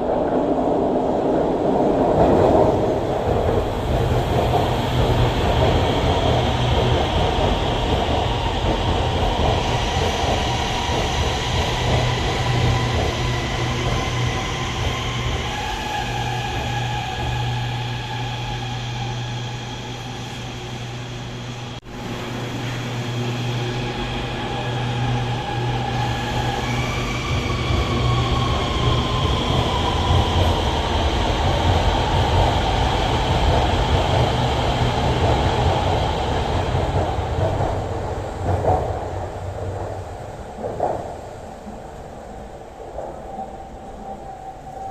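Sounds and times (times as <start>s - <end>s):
electric train whine: 0.0s - 44.9s
wheel and rail rumble: 0.0s - 44.9s.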